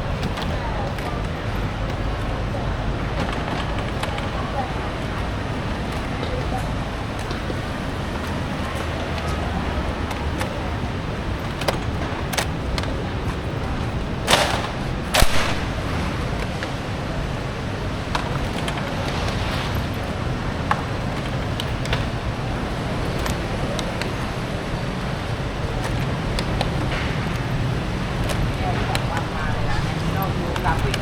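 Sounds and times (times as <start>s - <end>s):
busy market din: 0.0s - 31.0s.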